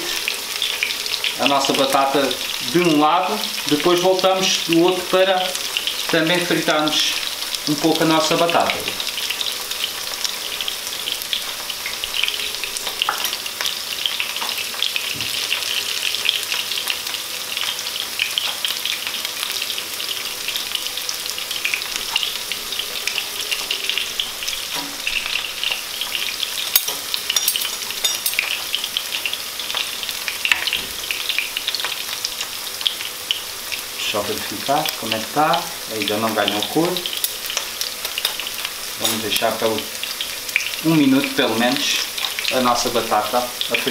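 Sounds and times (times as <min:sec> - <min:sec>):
potatoes sizzling in oil: 0:00.0 - 0:43.9.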